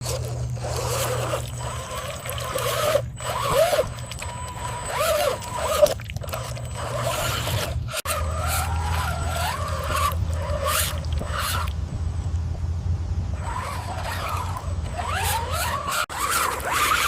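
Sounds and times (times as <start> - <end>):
electric motor and gearbox whining: 0.0 - 17.0
steady low hum: 0.0 - 17.0.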